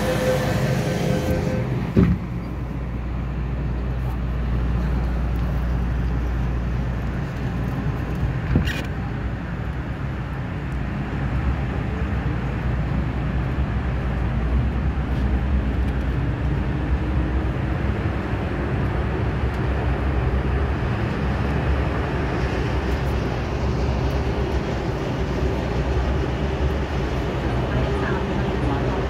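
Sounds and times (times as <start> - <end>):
train wheels and traction rumble: 0.0 - 29.0.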